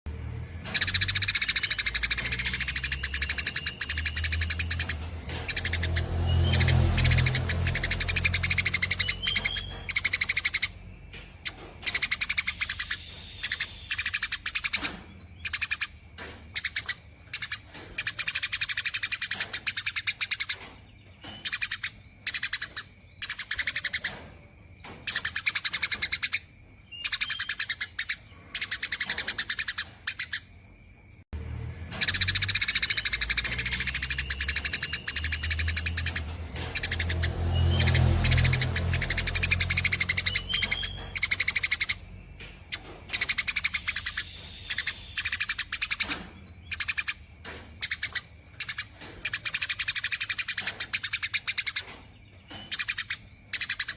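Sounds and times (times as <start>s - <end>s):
sparrow chattering: 0.6s - 30.6s, 31.9s - 53.9s.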